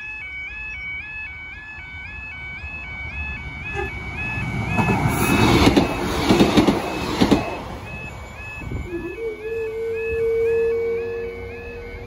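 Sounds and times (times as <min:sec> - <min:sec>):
two-tone crossing alarm: 0:00.0 - 0:12.0
train passing at speed: 0:01.9 - 0:12.0.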